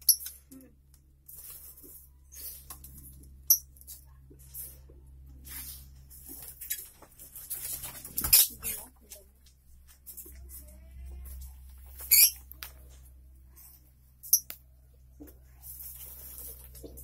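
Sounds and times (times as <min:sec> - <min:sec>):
rustling and scraping: 0:01.2 - 0:14.3, 0:14.9 - 0:17.0.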